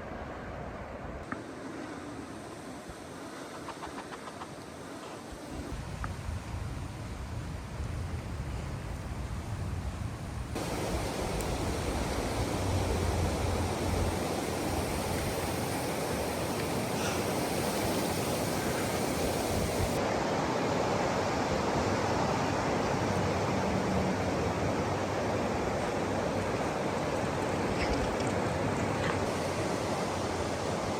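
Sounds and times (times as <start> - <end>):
steady rushing hiss: 1.2 - 30.9.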